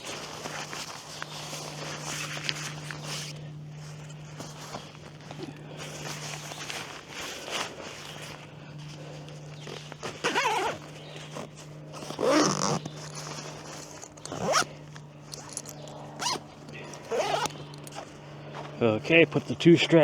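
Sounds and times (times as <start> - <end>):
nylon bag rustling: 0.0 - 19.6
steady low hum: 0.0 - 20.0.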